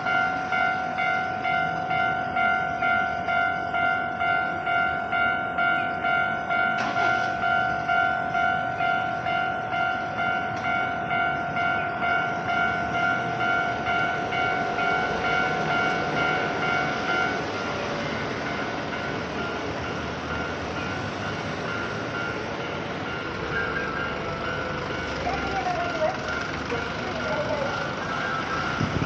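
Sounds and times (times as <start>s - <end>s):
level-crossing alarm dinging: 0.0s - 29.0s
train running: 0.0s - 29.0s.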